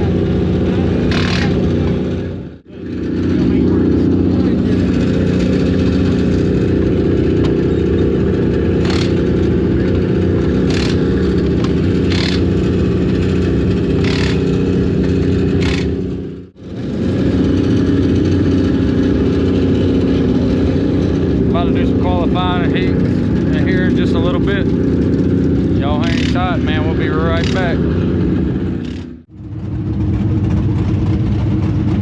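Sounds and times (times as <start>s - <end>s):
race car engines running: 0.0s - 32.0s.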